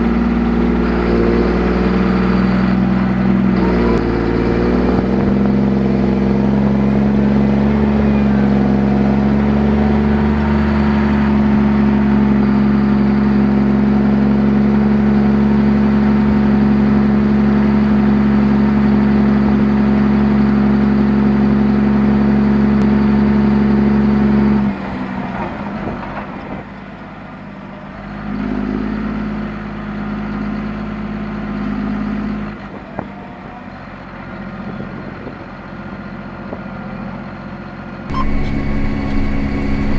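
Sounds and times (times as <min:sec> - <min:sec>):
tractor diesel engine in cab: 0:00.0 - 0:39.9.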